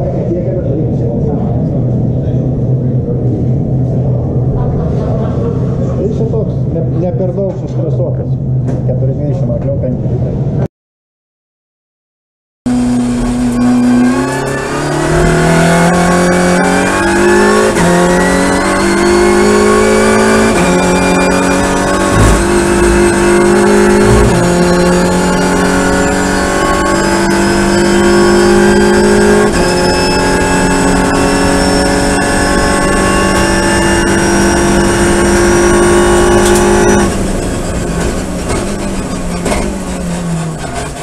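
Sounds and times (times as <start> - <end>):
race car engine at full throttle: 0.0 - 9.2, 12.7 - 41.0.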